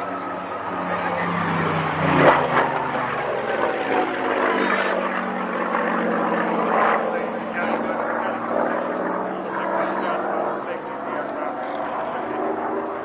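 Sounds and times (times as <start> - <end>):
propeller aircraft engine droning: 0.0 - 13.0.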